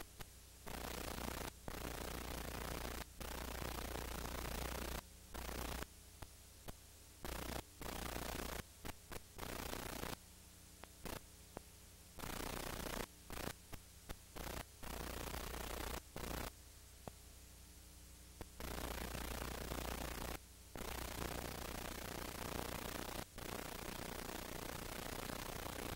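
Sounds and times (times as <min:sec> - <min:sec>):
faint electrical hum: 0:00.0 - 0:25.9
static hiss: 0:00.0 - 0:25.9.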